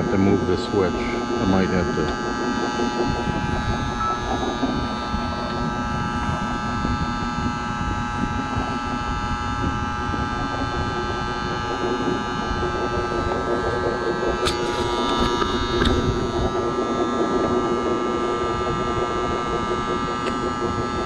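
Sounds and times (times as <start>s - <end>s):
electric motor whining hum: 0.0s - 21.0s.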